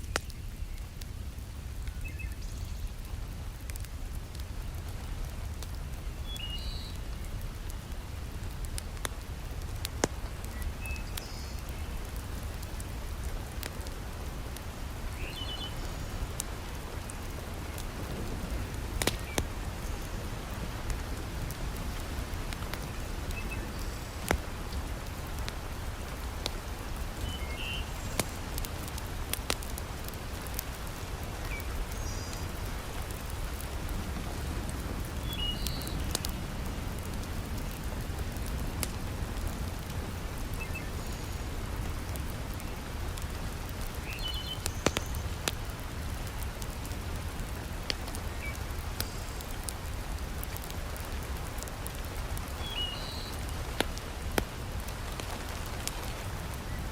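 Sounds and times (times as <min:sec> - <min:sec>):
wood fire crackling: 0:00.0 - 0:56.9
heavy rain falling: 0:06.9 - 0:56.9.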